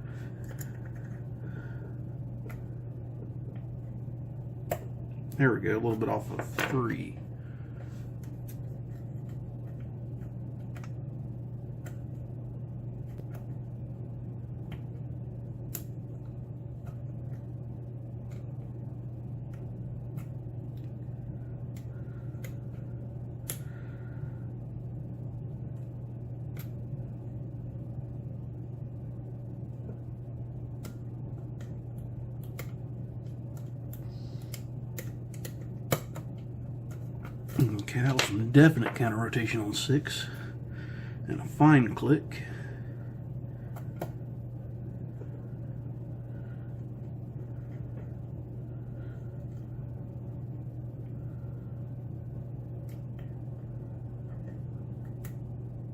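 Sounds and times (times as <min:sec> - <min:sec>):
low hum: 0:00.0 - 0:55.9.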